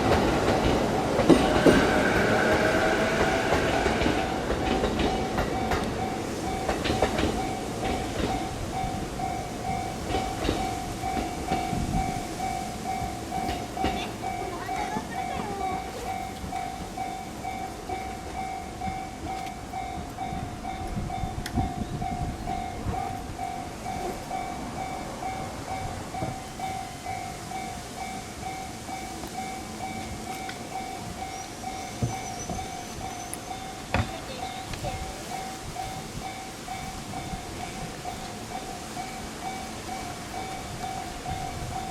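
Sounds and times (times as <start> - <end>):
railroad crossing bell ringing: 0.0 - 41.9
train wheels clacking on rails: 0.0 - 41.9.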